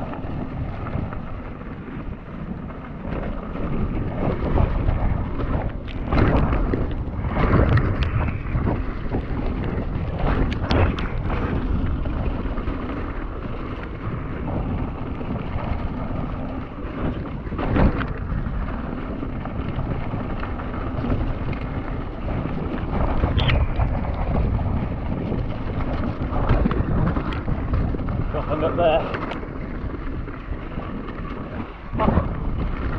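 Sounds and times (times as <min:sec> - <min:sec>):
bike rumbling and rattling: 0:00.0 - 0:32.9
wind noise on microphone: 0:00.0 - 0:32.9.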